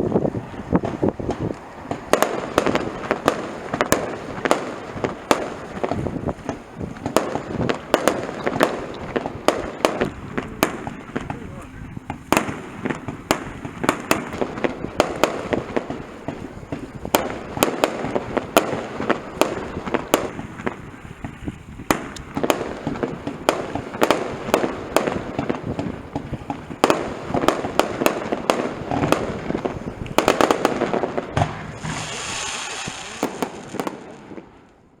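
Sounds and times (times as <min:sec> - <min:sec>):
crackling hiss of fireworks: 0:00.0 - 0:35.0
fireworks bursting: 0:00.0 - 0:35.0.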